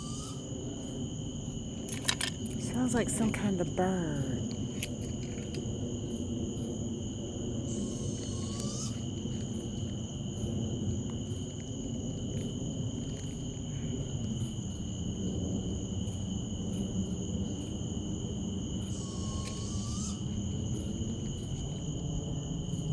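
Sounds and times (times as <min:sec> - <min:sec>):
high-pitched insect drone: 0:00.0 - 0:22.9.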